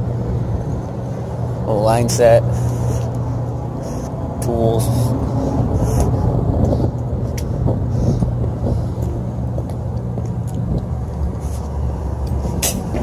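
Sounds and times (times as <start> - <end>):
heating unit humming: 0.0 - 13.0.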